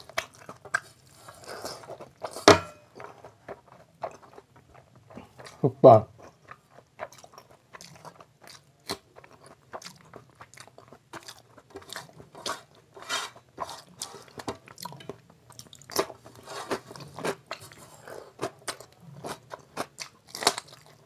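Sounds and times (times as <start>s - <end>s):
chewing with wet mouth smacks: 0.0s - 21.0s.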